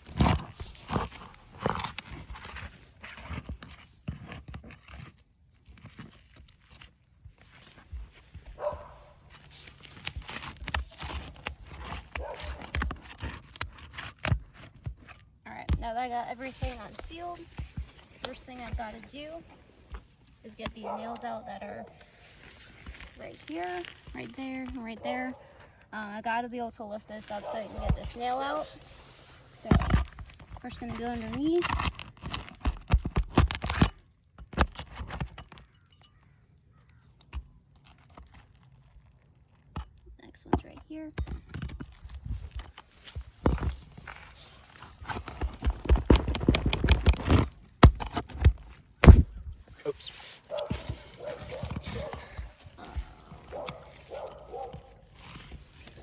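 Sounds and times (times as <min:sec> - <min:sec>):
shingles crackling and tearing: 0:00.0 - 0:40.7, 0:41.4 - 0:56.0.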